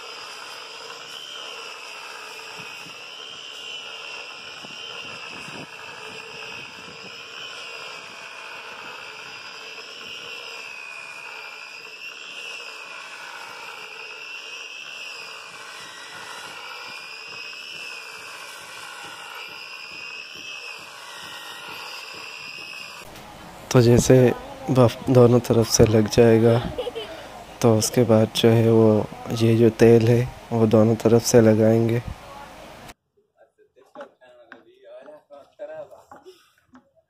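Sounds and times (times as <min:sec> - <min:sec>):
electric buffer motor whine: 0:00.0 - 0:33.0.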